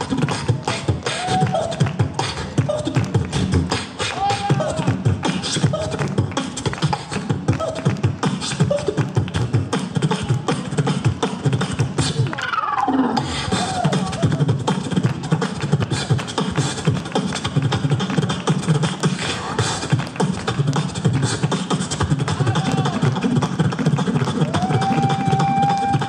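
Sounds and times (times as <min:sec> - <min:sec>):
beatboxing into a microphone: 0:00.0 - 0:26.0.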